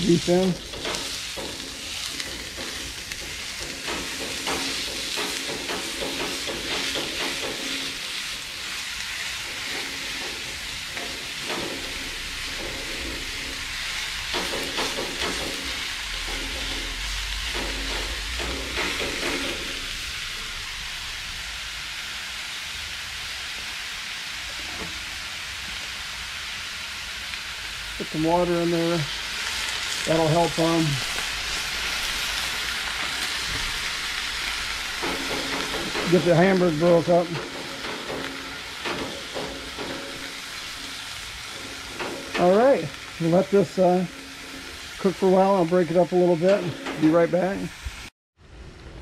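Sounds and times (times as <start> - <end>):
meat sizzling in a skillet: 0.0 - 48.1.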